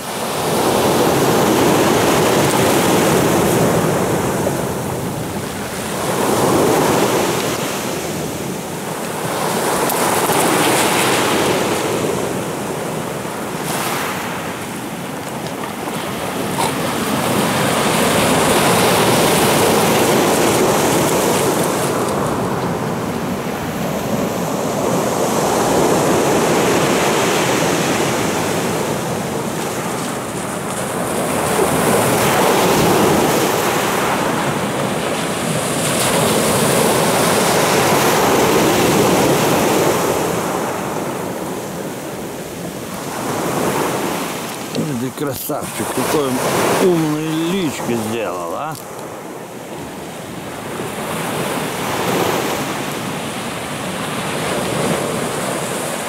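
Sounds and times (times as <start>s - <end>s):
sea surf on pebble beach: 0.0s - 56.0s.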